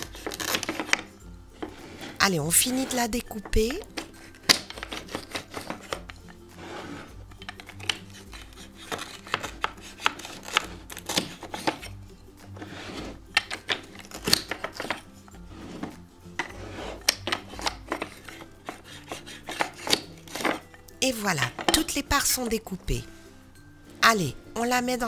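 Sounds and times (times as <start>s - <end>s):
background music: 0.0s - 25.0s.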